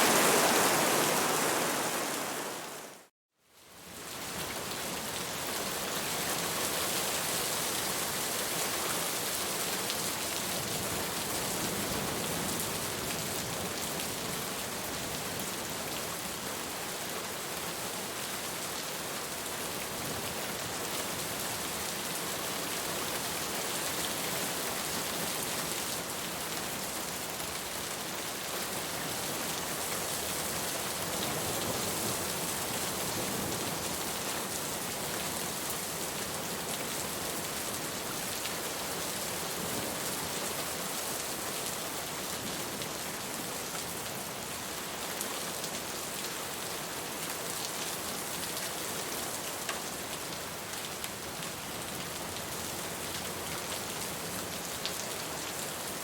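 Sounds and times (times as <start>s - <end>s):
rain pattering on a surface: 3.8s - 56.0s.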